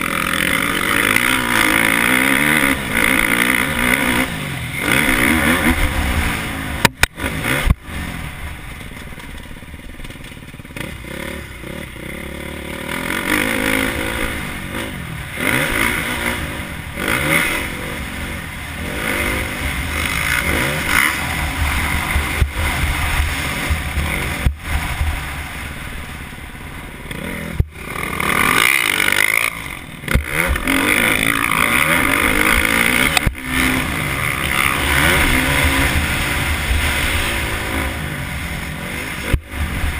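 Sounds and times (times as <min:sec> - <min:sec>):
motocross engine revving: 0:00.0 - 0:09.4, 0:10.0 - 0:39.9.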